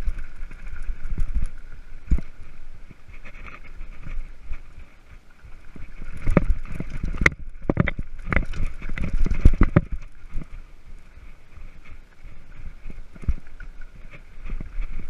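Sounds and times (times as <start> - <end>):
mountain bike rattling: 0.0 - 15.0
wind noise: 0.0 - 15.0.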